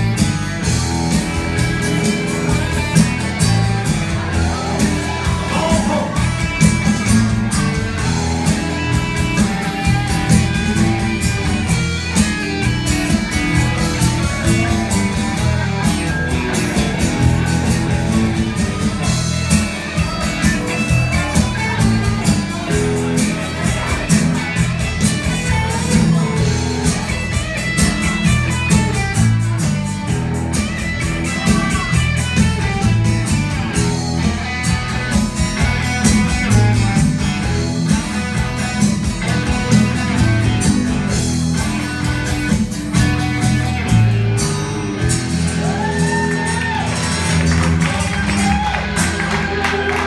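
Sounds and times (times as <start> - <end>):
acoustic guitar: 0.0 - 50.0
drums: 0.0 - 50.0
electric bass: 0.0 - 50.0
electric guitar: 0.0 - 50.0.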